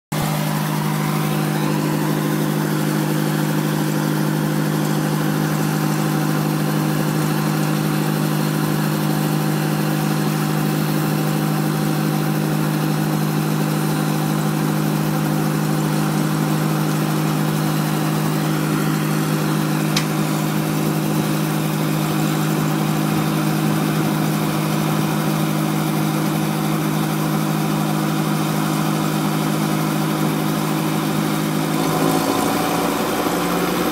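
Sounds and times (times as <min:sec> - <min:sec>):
helicopter engine droning: 0:00.1 - 0:31.8.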